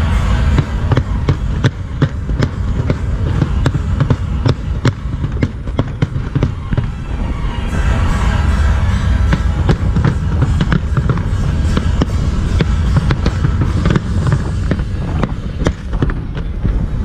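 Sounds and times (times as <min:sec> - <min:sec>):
fireworks bangs and crackles: 0:00.0 - 0:17.0
low booming rumble: 0:00.0 - 0:17.0.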